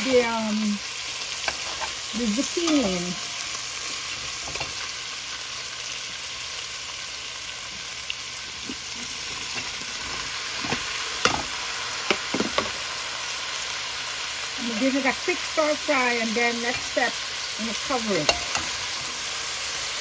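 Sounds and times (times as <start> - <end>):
fish and onions sizzling in oil: 0.0 - 20.0.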